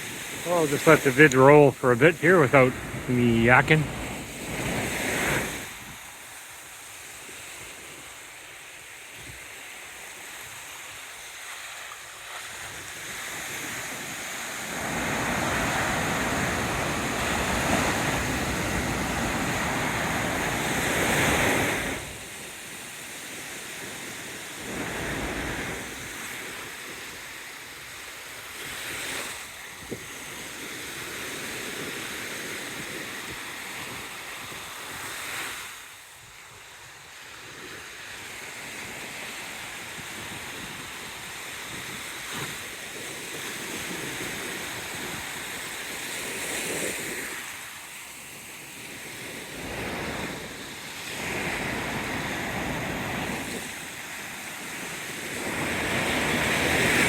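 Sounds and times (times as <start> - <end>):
small waves breaking: 0.0 - 36.5, 37.1 - 57.0.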